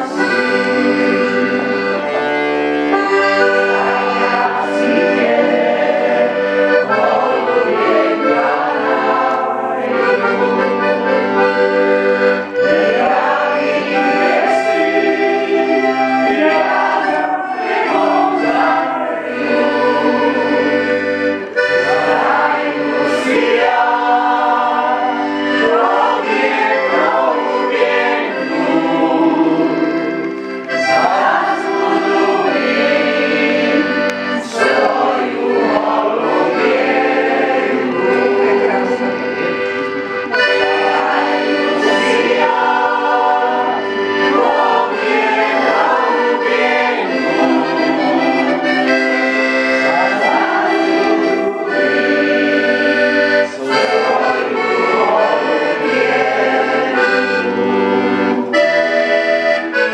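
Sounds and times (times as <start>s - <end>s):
folk choir singing: 0.0s - 59.9s
piano accordion playing folk song: 0.0s - 59.9s.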